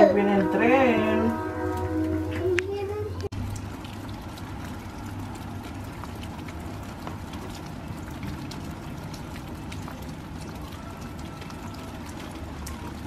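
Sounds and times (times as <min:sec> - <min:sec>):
low steady rumble: 0:00.0 - 0:13.0
small drips: 0:00.0 - 0:13.0
rain falling through trees: 0:01.4 - 0:13.0.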